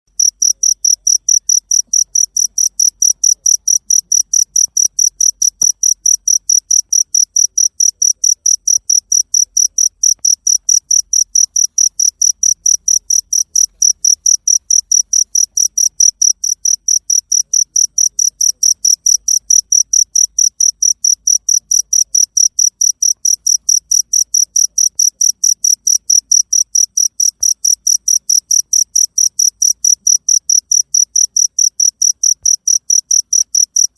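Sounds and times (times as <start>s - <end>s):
cricket chirping: 0.1s - 33.9s.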